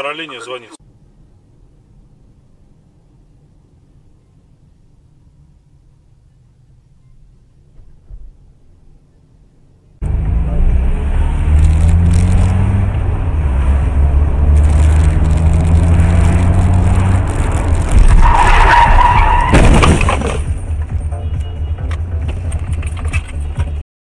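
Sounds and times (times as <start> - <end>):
road and wind noise: 0.0 - 23.8.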